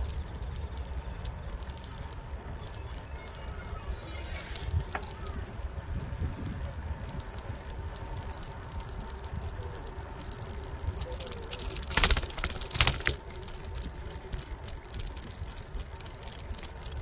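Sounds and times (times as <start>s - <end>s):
bicycle frame rattling over bumps: 0.0s - 17.0s
tyres rumbling on pavement: 0.0s - 17.0s.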